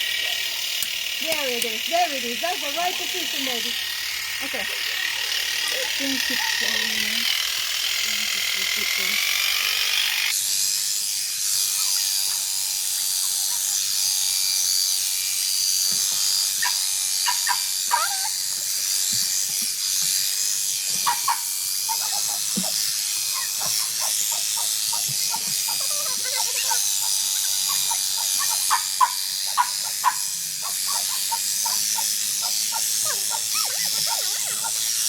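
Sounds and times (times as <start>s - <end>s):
electric clippers whining: 0.0s - 35.0s.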